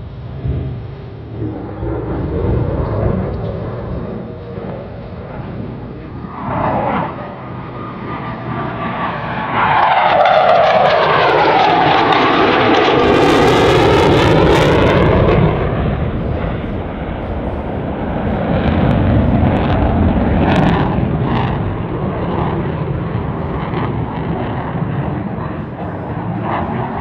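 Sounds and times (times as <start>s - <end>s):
fighter jet roaring past: 0.0s - 27.0s.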